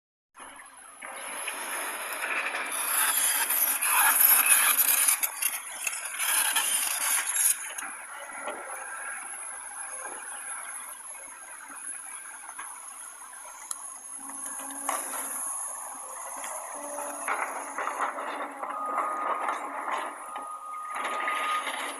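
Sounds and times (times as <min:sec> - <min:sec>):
heavy construction machinery: 0:00.4 - 0:21.9.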